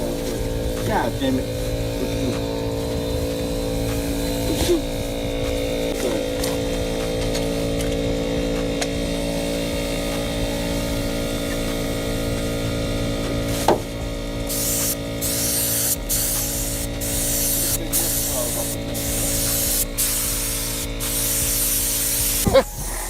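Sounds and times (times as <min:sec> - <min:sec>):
motor hum: 0:00.0 - 0:23.0
spray gun hissing: 0:00.0 - 0:23.0.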